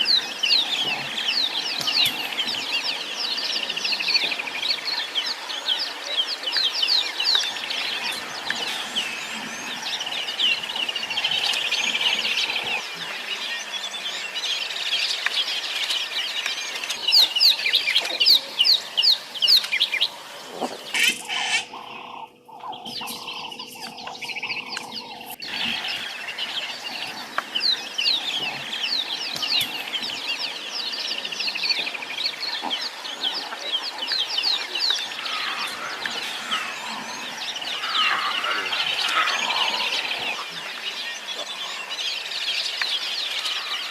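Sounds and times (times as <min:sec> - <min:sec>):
birds chattering: 0:00.0 - 0:43.9.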